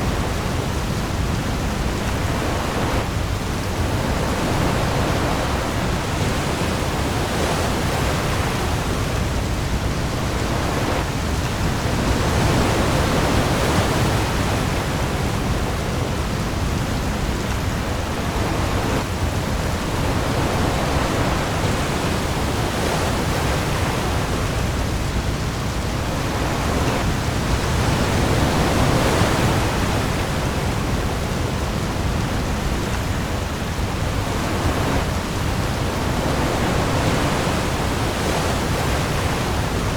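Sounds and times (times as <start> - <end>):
heavy rain on ocean: 0.0 - 39.9
waves swelling: 0.0 - 39.9.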